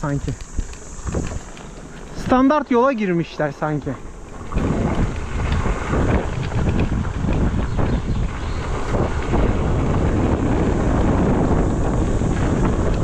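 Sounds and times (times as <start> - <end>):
tyres rolling on gravel: 0.0 - 13.0
wind buffeting microphone: 0.0 - 13.0.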